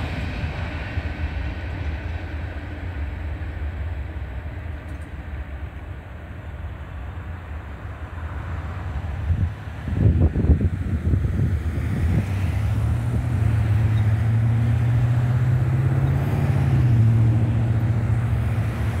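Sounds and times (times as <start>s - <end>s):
cars engine and road hum: 0.0s - 19.0s.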